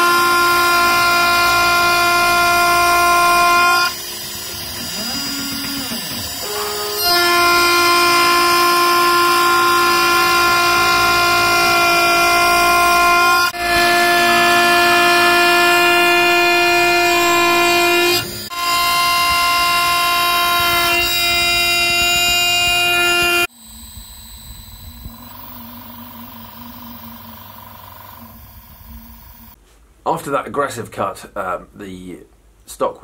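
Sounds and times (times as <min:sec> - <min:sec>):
router spindle cutting metal whine: 0:00.0 - 0:29.6.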